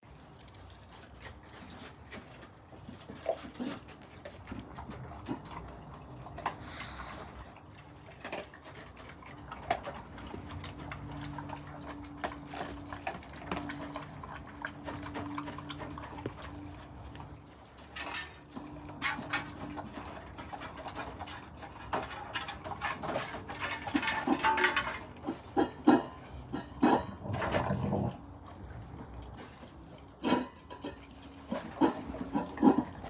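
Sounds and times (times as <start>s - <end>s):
low steady hum: 0.1s - 33.0s.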